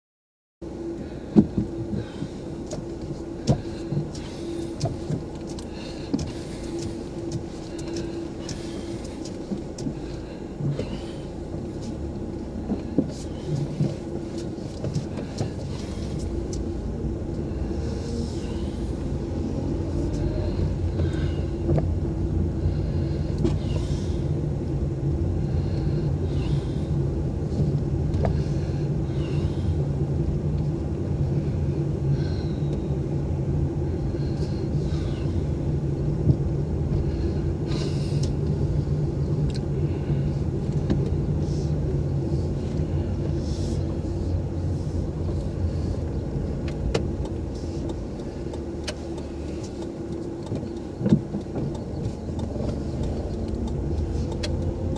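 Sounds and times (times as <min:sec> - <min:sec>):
car engine and road noise: 0:00.6 - 0:54.9.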